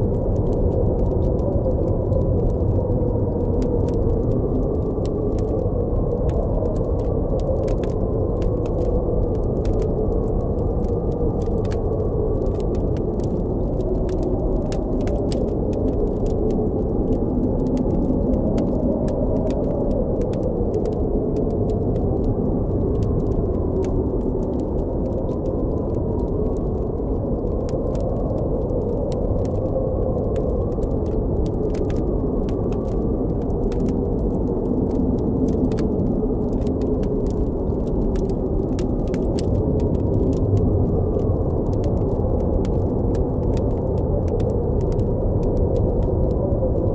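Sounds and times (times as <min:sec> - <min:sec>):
blizzard wind: 0:00.0 - 0:46.9
campfire crackling: 0:00.0 - 0:46.9.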